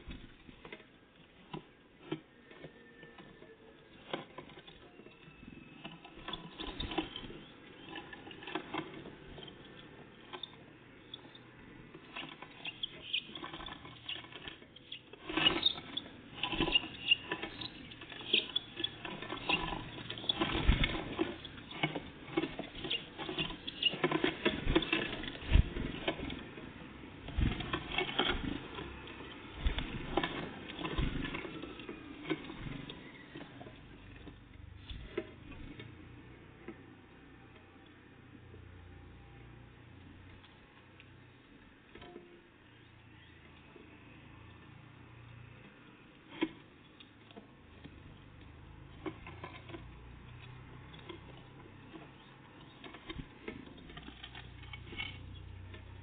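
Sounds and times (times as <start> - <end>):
birds pecking and scrabbling: 0.0 - 36.1, 42.6 - 56.0.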